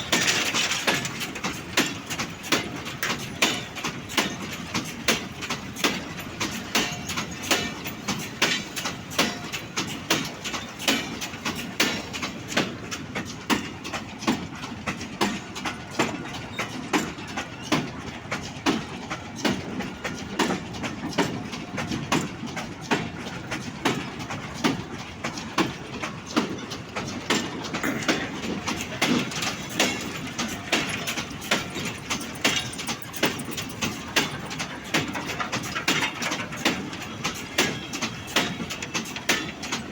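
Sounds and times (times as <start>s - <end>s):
train wheels clicking over rail joints: 0.0s - 39.9s
wagons rumbling and rattling: 0.0s - 39.9s.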